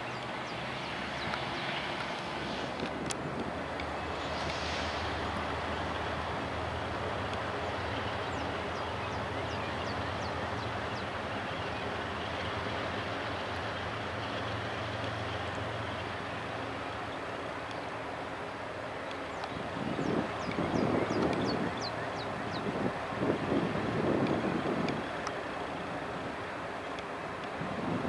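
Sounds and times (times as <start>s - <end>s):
diesel locomotive engine drone: 0.0s - 28.0s
train rumbling: 0.0s - 28.0s.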